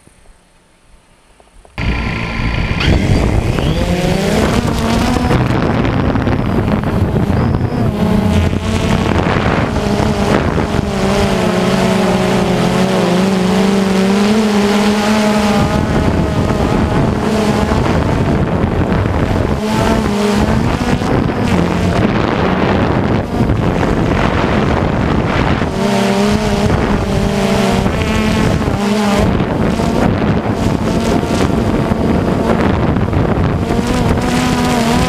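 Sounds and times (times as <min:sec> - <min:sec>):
drone propellers buzzing: 0:00.0 - 0:35.0
wind buffeting microphone: 0:01.6 - 0:35.0.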